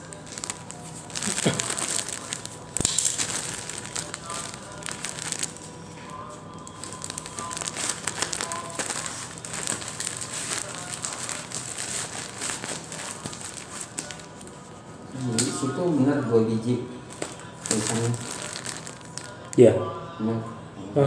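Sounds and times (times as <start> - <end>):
plastic mailer bag crinkling: 0.0 - 15.8, 17.1 - 19.6.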